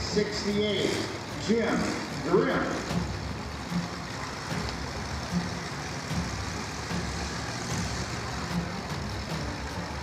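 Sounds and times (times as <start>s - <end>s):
many car engines running: 0.0s - 10.0s.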